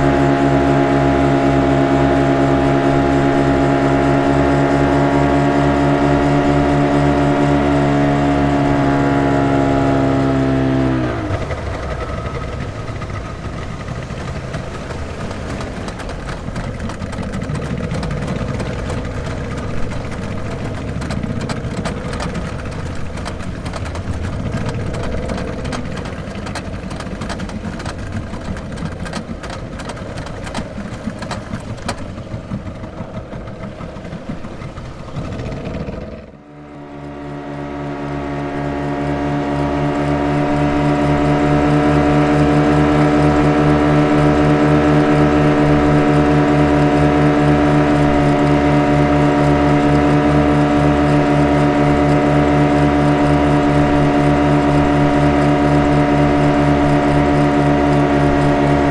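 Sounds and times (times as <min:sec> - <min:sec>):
motorboat engine droning: 0:00.0 - 0:58.9
steady engine hum: 0:00.0 - 0:58.9.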